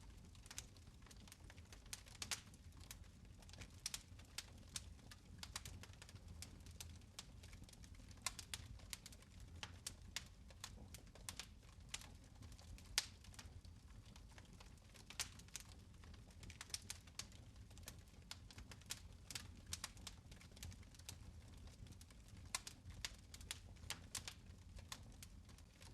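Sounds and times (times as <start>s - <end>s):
fire crackling and popping: 0.0s - 25.9s
low rumble of flames: 0.0s - 25.9s.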